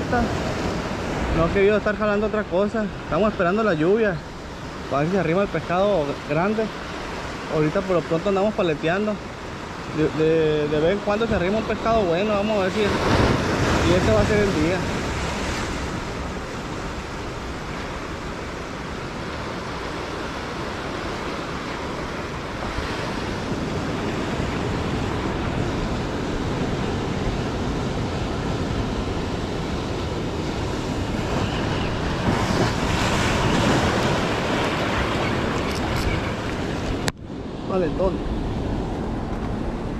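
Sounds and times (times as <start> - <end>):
surf washing over rocks: 0.0 - 39.9.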